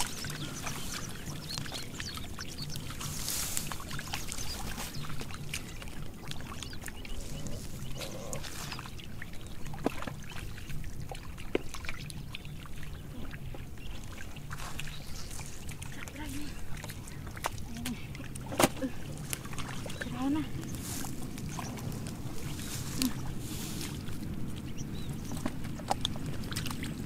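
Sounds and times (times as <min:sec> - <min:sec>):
steady low rumble: 0:00.0 - 0:27.0
water splashing and trickling: 0:00.0 - 0:27.0.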